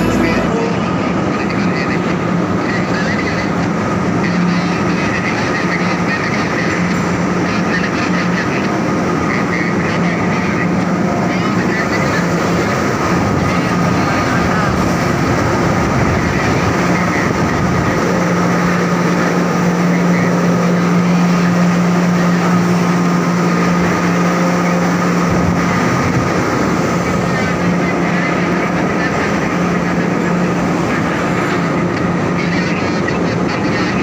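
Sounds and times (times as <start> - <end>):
loud rushing noise: 0.0 - 34.0
machine hum: 0.0 - 34.0.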